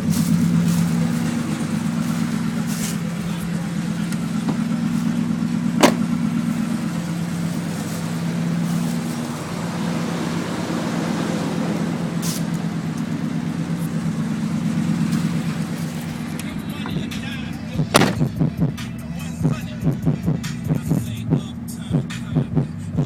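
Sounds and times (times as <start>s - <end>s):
truck engine droning: 0.0s - 23.0s.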